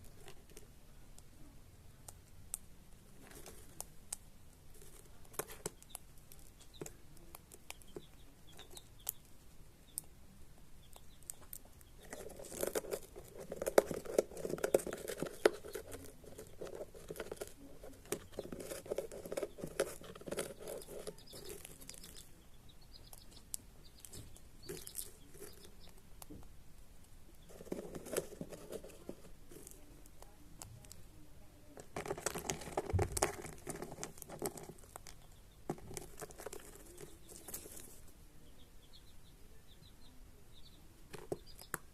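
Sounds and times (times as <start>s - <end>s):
birds cracking seeds: 2.0s - 38.2s, 40.6s - 41.9s
rustling: 3.0s - 10.1s, 11.0s - 31.1s, 31.7s - 38.3s.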